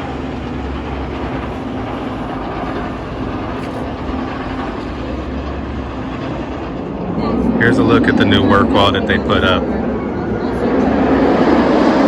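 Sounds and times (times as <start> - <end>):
heavy machinery engine rumble: 0.0 - 12.0
steady hum: 0.0 - 12.0.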